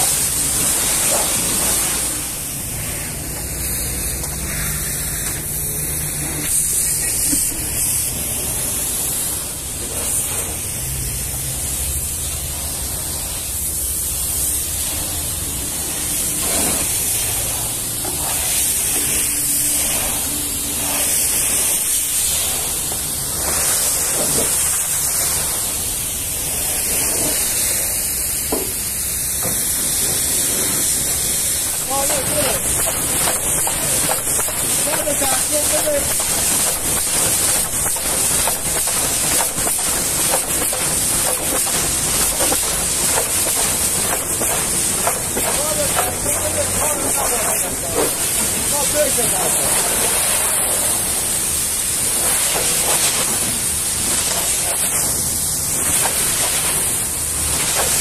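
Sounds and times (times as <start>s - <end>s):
pressure washer water spray hissing: 0.0s - 58.0s.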